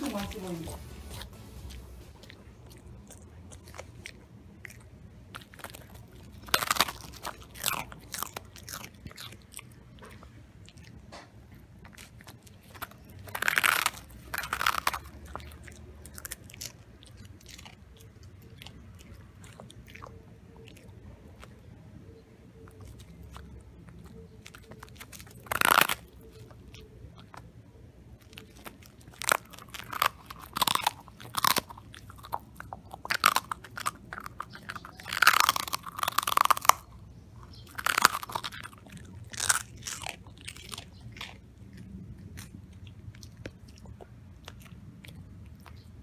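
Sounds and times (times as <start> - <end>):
dog crunching a chew: 0.0 - 46.0.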